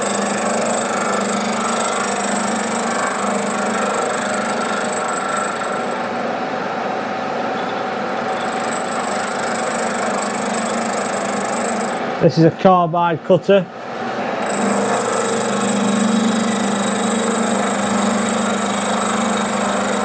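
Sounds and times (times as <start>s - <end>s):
milling machine motor hum: 0.0s - 12.3s, 13.8s - 20.0s.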